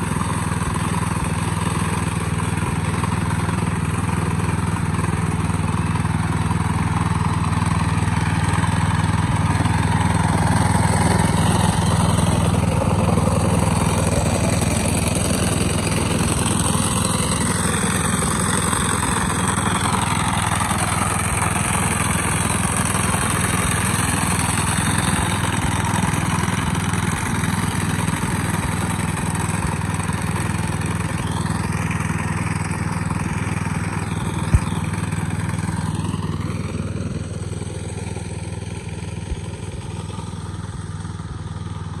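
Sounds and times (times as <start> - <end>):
cutter mowing tall grass: 0.0 - 42.0
tractor engine running: 0.0 - 42.0.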